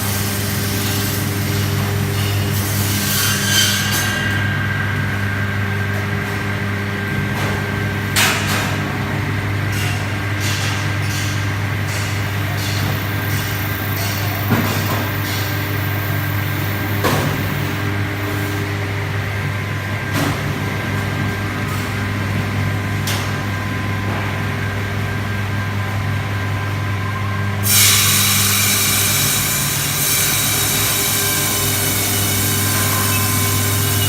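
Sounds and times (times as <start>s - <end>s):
ice-cutting machine motor hum: 0.0s - 34.0s.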